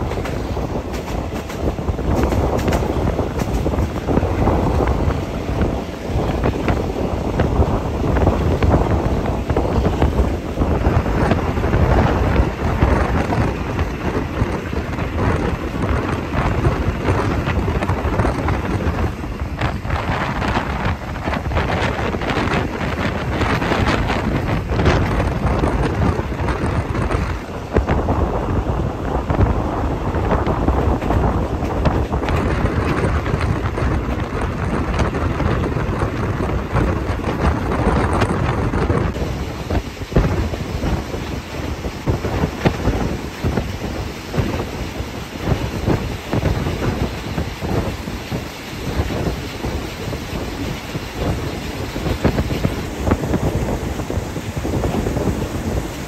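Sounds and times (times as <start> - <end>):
train wheels clattering on track: 0.0 - 56.0
wind buffeting microphone: 0.0 - 56.0.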